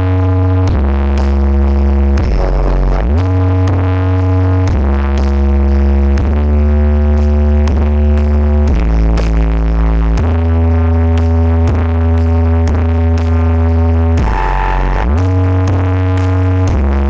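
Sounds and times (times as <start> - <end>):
loud electronic dance music: 0.0 - 17.0.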